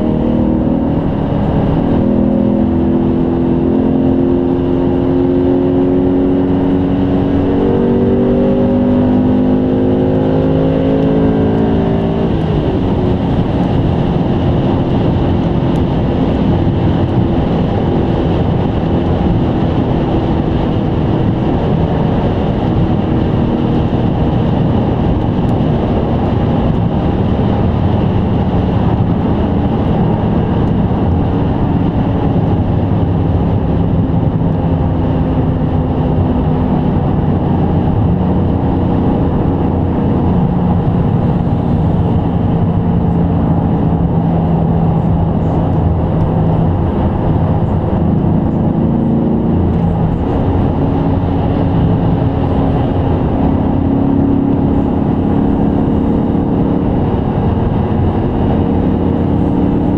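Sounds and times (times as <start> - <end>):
car engine from inside cabin: 0.0 - 59.9
tyre and road noise: 0.0 - 59.9.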